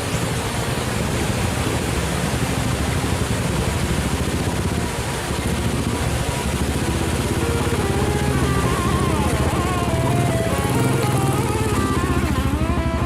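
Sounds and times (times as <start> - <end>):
motorcycle engine running: 0.0 - 13.0
steady rushing noise: 0.0 - 13.0.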